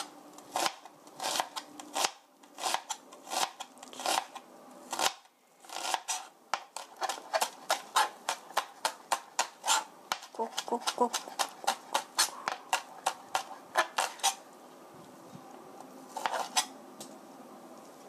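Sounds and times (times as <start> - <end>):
knife slicing onion on board: 0.0 - 14.4, 16.1 - 16.7.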